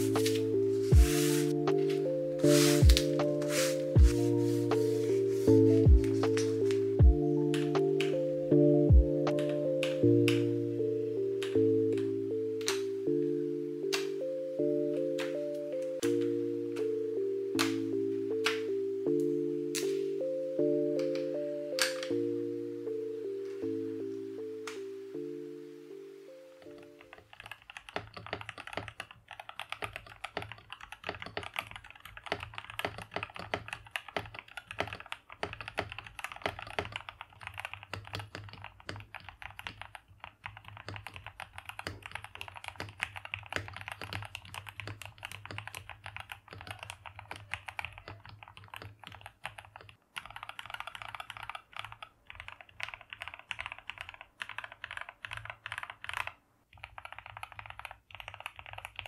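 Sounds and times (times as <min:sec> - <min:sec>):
mechanical keyboard typing: 0:00.0 - 0:10.6, 0:11.4 - 0:20.0, 0:20.6 - 0:22.3, 0:26.6 - 0:59.0.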